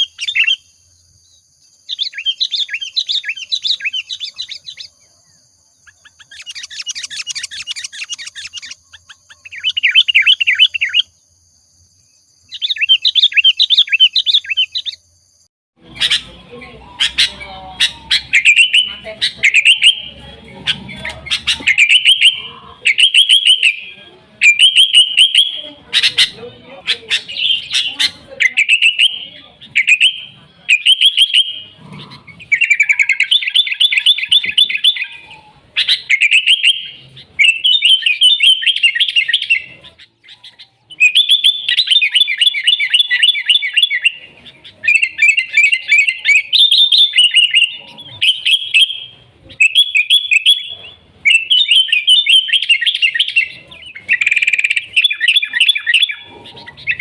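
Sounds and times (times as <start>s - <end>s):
bird singing chattering whistles: 0.0s - 11.4s, 12.2s - 57.0s.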